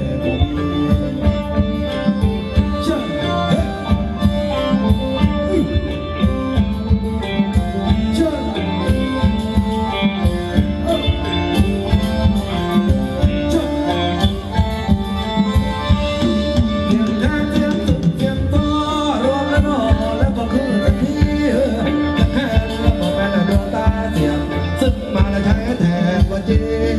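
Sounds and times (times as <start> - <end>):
live band playing dance music: 0.0 - 26.9
steady drum beat: 0.0 - 26.9.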